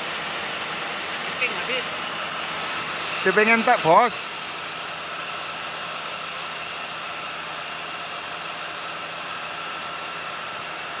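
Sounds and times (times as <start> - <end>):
machine whirring and hissing: 0.0 - 11.0.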